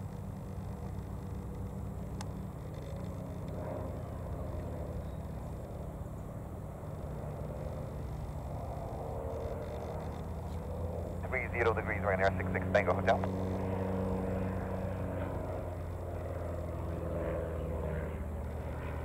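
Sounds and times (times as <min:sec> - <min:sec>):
propeller plane droning overhead: 0:00.0 - 0:19.0.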